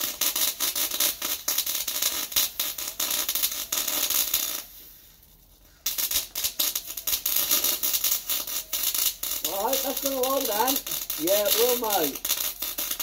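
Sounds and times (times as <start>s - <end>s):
arc welding crackling sizzle: 0.0s - 13.0s.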